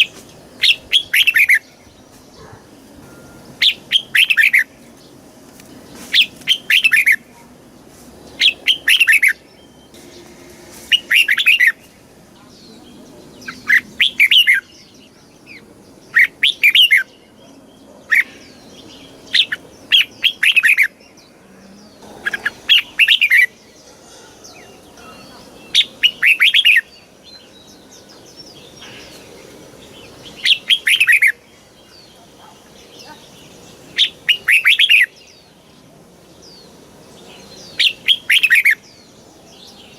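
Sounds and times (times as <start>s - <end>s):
bird warbling song: 0.0s - 7.5s, 8.2s - 39.9s.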